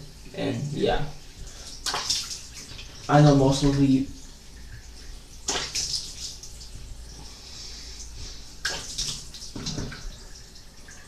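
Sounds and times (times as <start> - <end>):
water splashing at a sink: 1.3 - 7.3, 7.9 - 11.0.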